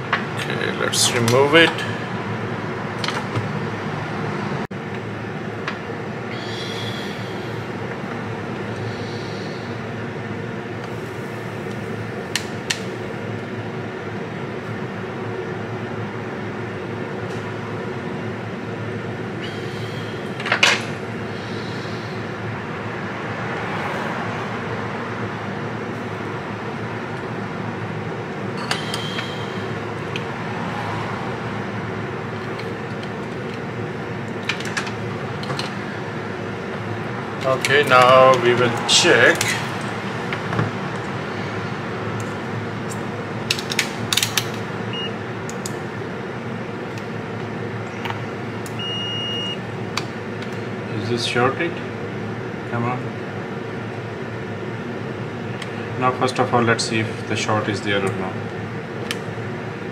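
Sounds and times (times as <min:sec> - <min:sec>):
fan blowing hiss: 0:00.0 - 0:59.9.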